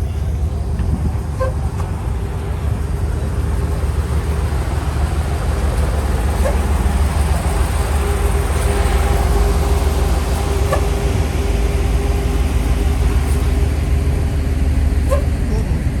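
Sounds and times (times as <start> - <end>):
large vehicle engine rumble: 0.0 - 16.0.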